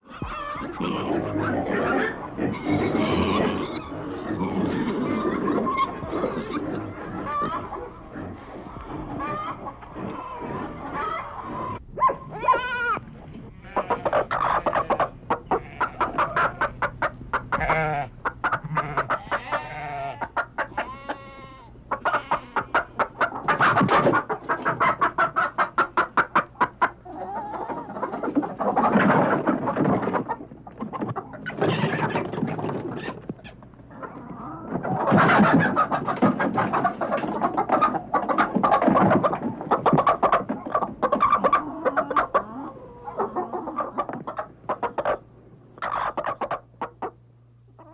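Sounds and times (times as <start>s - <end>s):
chickens clucking and cackling: 0.0s - 47.9s
farm animal calls: 0.0s - 47.9s.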